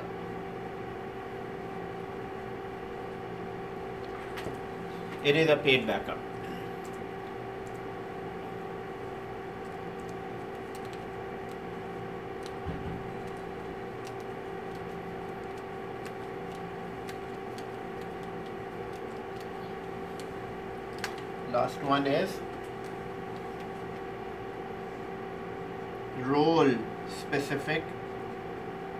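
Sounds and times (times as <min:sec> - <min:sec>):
room hum and hiss: 0:00.0 - 0:28.9.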